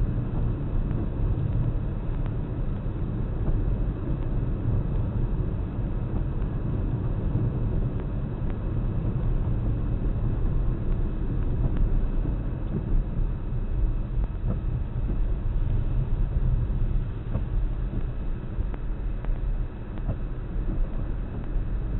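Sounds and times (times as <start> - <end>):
car engine and tyre noise: 0.0 - 21.9.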